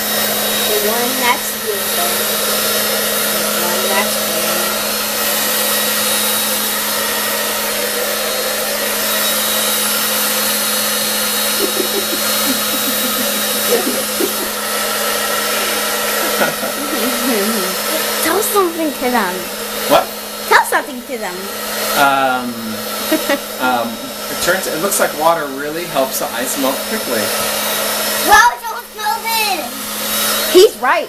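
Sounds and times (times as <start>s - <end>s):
hair dryer running: 0.0s - 31.0s.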